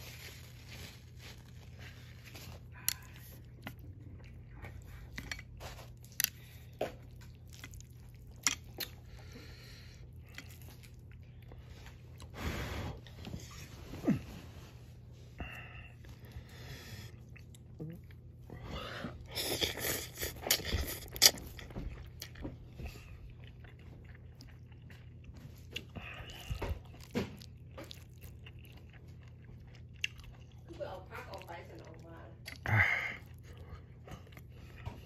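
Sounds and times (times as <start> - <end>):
person chewing noodles: 0.0 - 35.0.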